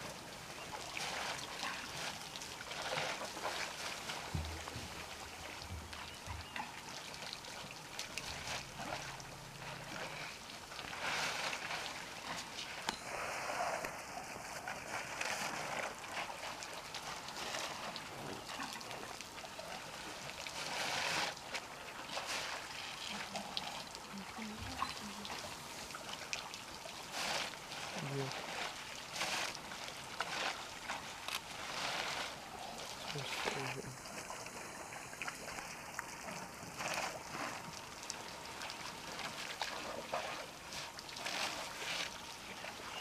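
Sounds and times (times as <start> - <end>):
water splashing and dribbling: 0.0 - 43.0.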